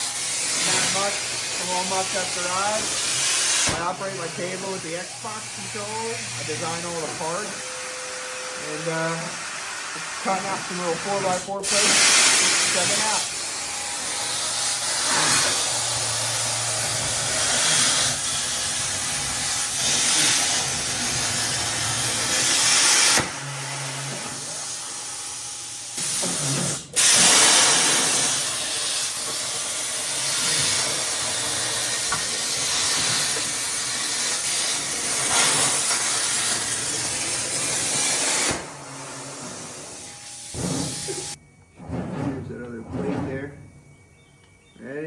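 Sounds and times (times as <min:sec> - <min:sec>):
plasma torch arc hissing: 0:00.0 - 0:41.4.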